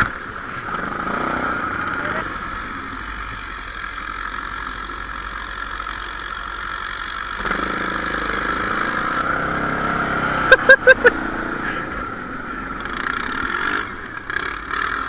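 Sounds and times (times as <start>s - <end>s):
quad engine revving: 0.0s - 15.0s.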